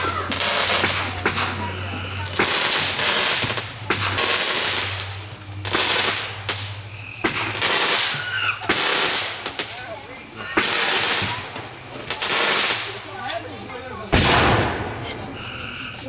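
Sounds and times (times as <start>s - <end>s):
fireworks bangs: 0.0s - 13.2s, 14.1s - 16.0s
fireworks crackling and sizzling: 0.0s - 16.0s.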